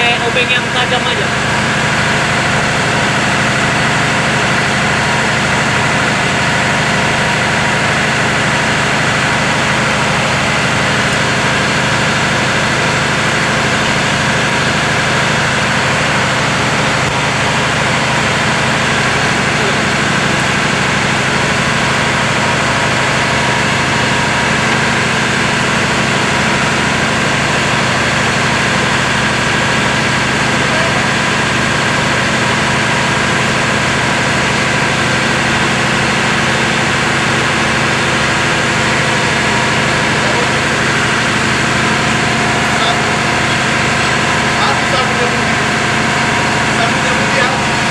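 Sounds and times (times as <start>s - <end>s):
engine droning steadily: 0.0s - 47.9s.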